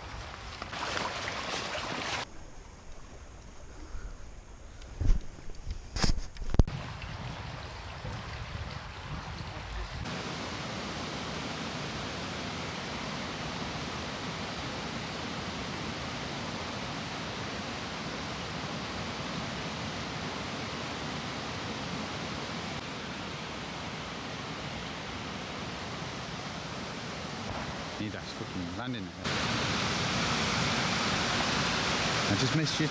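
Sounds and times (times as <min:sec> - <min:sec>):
brook water rushing: 0:00.0 - 0:02.3, 0:06.7 - 0:32.9.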